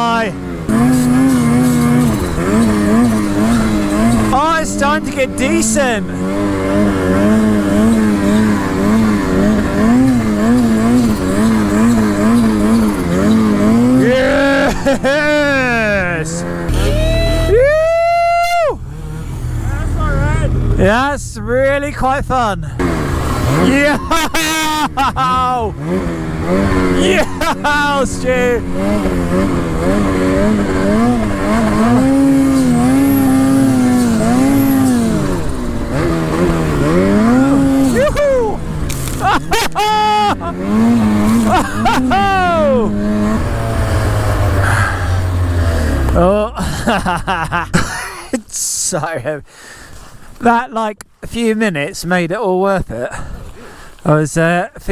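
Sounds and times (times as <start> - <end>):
snowmobile engine under throttle: 0.0 - 50.6.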